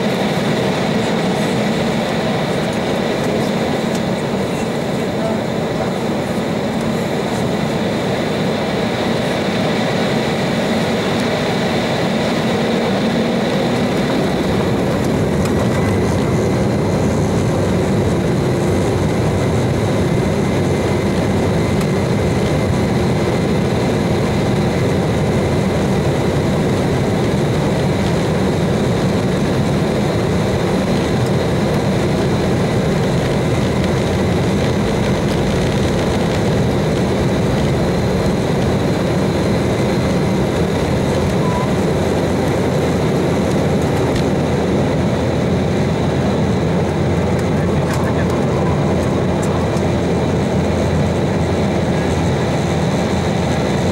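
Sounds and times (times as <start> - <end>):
high engine whine: 0.0 - 53.9
higher engine whine: 0.0 - 53.9
jet engines spooling up: 0.0 - 53.9.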